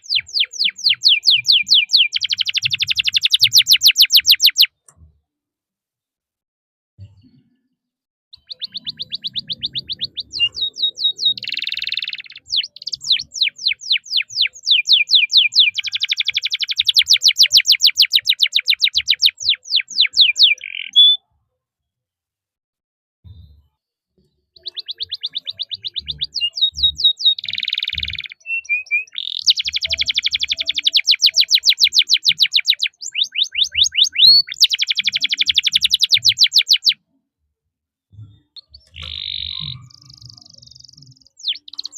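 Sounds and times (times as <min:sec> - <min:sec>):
canary singing chirps and trills: 0:00.0 - 0:05.1, 0:08.4 - 0:21.3, 0:24.2 - 0:37.1, 0:38.1 - 0:41.9.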